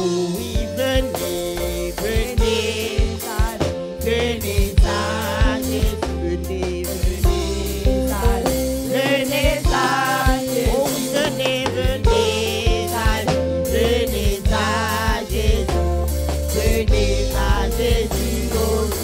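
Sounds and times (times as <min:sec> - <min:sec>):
women singing a hymn: 0:00.0 - 0:06.2, 0:07.8 - 0:19.0
drum hits: 0:00.0 - 0:19.0
sustained bass notes: 0:00.0 - 0:19.0.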